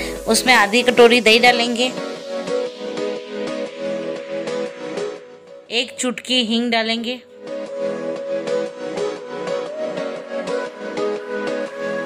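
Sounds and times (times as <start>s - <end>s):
instrumental music with light beat: 0.0s - 12.0s.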